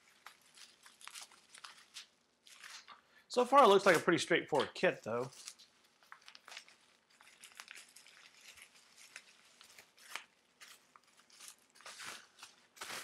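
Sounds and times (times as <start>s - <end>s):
bubble wrap crinkling: 0.0s - 4.2s, 4.8s - 13.0s.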